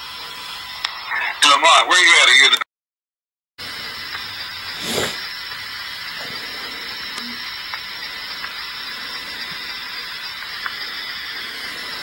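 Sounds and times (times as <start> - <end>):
radio static hiss: 0.0 - 2.6, 3.6 - 12.0.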